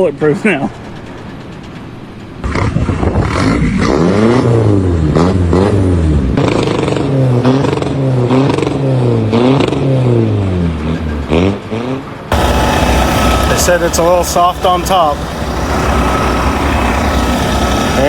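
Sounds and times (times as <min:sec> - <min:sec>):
engine revving: 0:02.4 - 0:18.0.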